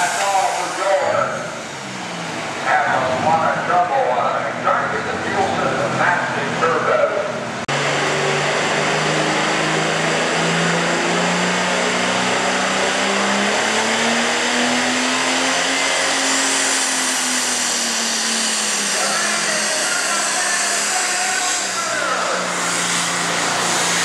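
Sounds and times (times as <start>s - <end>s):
tractor diesel engine at full throttle: 0.0s - 24.0s.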